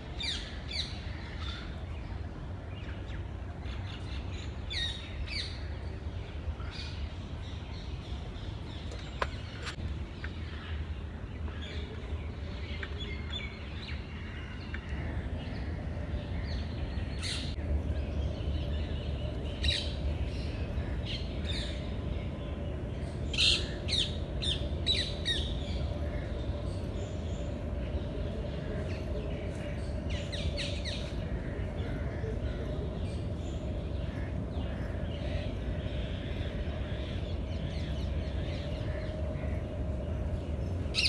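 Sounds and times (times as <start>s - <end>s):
birds chirping and calling: 6.4s - 41.0s.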